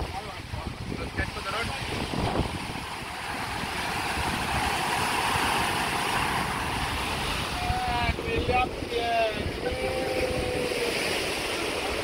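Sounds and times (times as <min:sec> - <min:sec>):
surf breaking on rocks: 0:00.0 - 0:12.0
wind gusting on microphone: 0:00.0 - 0:12.0.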